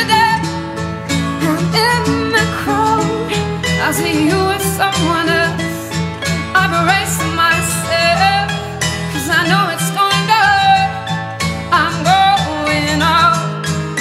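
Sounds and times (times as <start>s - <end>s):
wavering melody line: 0.0s - 14.0s.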